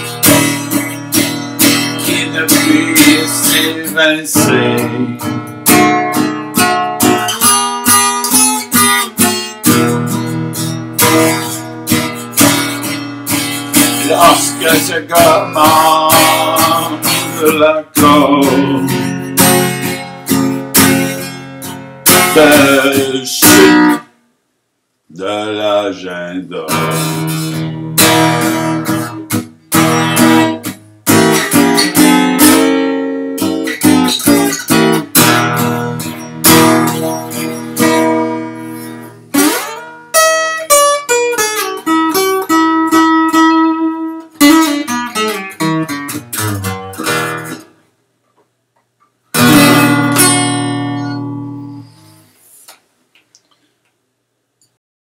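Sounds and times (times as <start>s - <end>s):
acoustic guitar strumming and picking: 0.0s - 24.2s, 25.1s - 47.9s, 49.3s - 52.8s.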